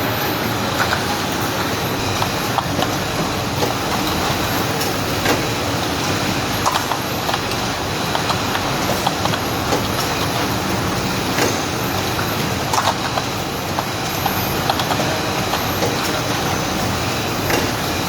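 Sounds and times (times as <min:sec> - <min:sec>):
shrink-wrapping machine running: 0:00.0 - 0:18.0
machine clacks and knocks: 0:02.0 - 0:16.8, 0:17.4 - 0:18.0.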